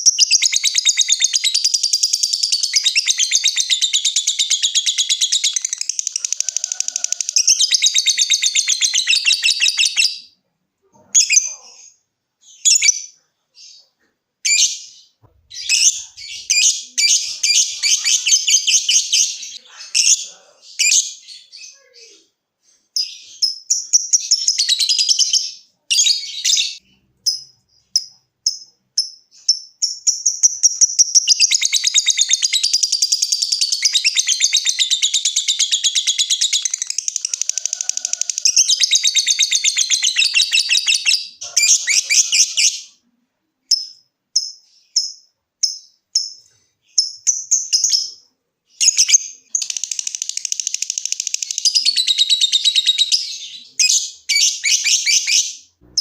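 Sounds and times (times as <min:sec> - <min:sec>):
lovebird chirping and chattering: 0:00.0 - 0:10.4, 0:11.0 - 0:43.0, 0:43.6 - 0:56.0.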